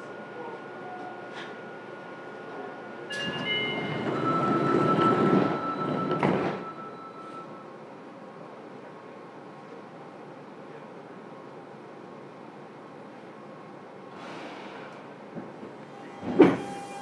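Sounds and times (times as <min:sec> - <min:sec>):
subway car running rumble: 0:00.0 - 0:17.0.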